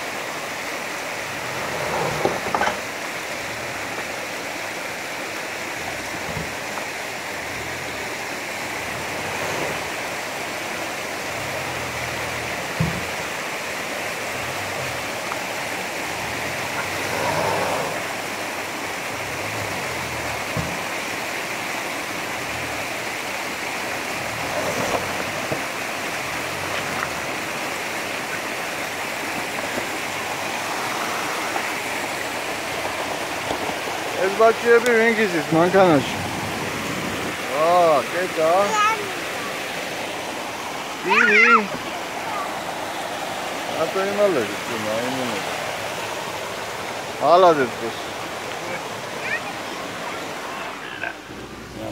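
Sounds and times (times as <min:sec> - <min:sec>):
stream rushing: 0:00.0 - 0:51.9.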